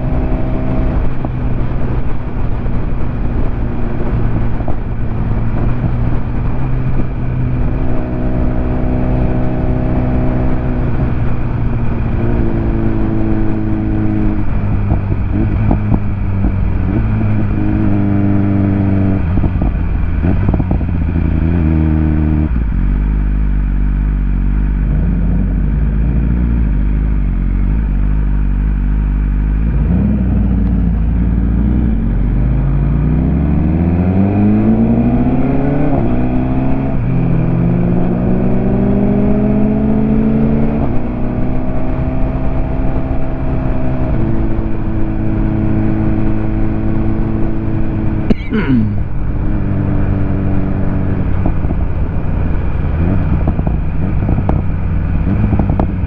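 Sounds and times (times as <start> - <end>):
motorcycle engine changing gears: 0.0 - 56.0.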